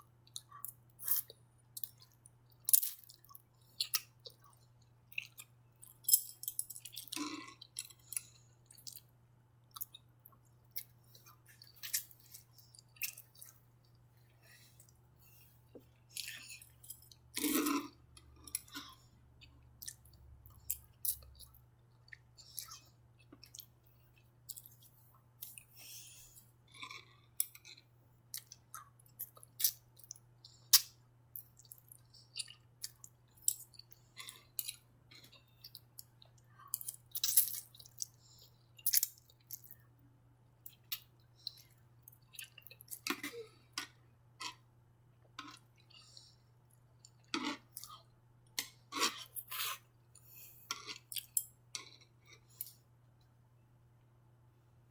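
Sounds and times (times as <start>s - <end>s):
chewing and wet mouth sounds: 0.2s - 39.9s, 40.6s - 44.6s, 45.2s - 52.8s.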